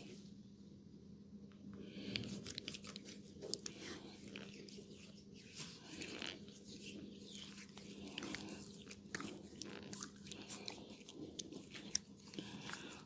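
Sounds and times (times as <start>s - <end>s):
steady low hum: 0.0s - 13.0s
hands rubbing on skin and hair: 2.3s - 13.0s.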